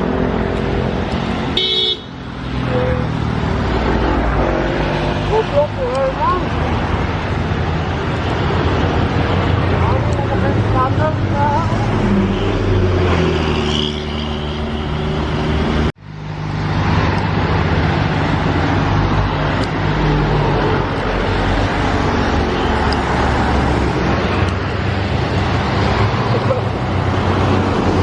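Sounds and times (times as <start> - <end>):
bus engine hum under load: 0.0 - 28.0
road traffic: 0.0 - 28.0.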